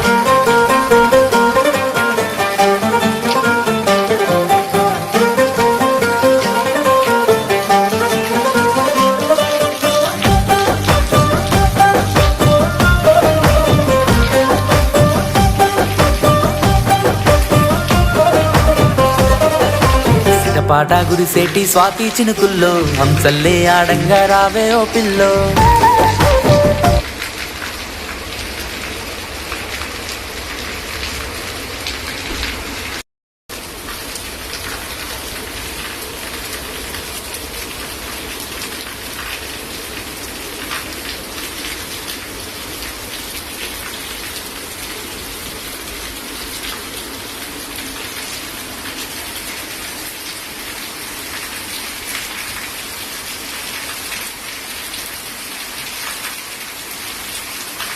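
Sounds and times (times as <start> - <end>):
rain pattering on a surface: 0.0 - 20.3, 21.0 - 57.9.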